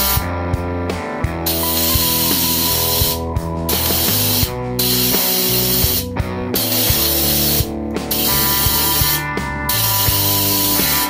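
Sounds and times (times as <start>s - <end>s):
background music with steady beat: 0.0s - 11.0s
air blow gun hissing: 1.5s - 11.0s.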